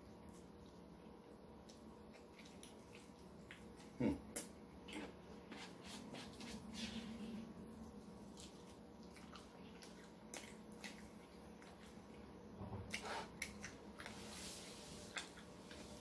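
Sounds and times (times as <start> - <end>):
faint room hum: 0.0 - 16.0
soft chewing: 0.0 - 16.0.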